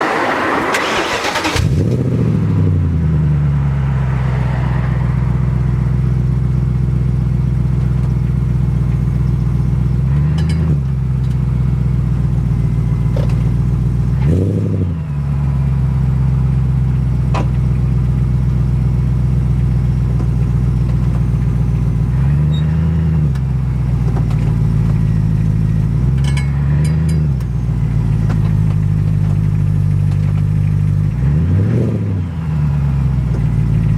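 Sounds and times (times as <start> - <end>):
car engine idling: 0.0 - 14.2, 15.0 - 31.3, 32.2 - 33.9.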